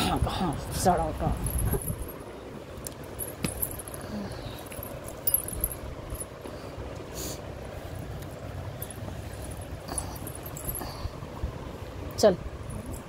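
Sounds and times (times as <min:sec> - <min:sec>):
low room rumble: 0:00.0 - 0:13.0.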